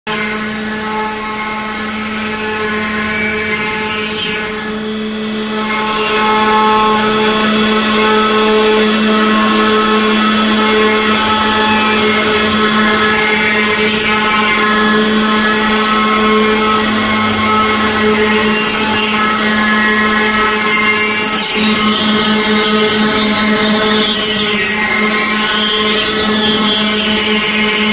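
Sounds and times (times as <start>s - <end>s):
stone router cutter grinding stone: 0.1s - 27.9s.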